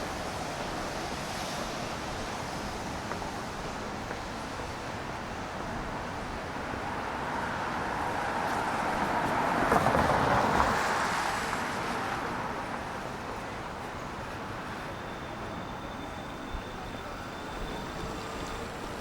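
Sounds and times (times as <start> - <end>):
tyres hissing on wet street: 0.0 - 19.0.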